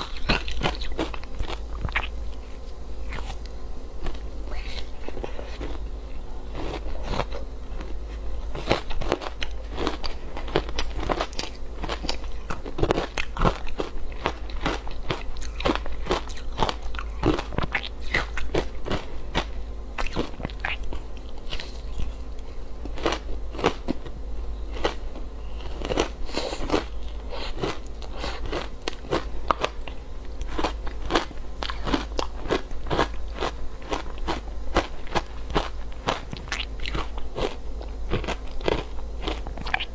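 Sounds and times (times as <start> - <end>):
crunching and chewing ice: 0.0 - 24.1, 24.7 - 39.9.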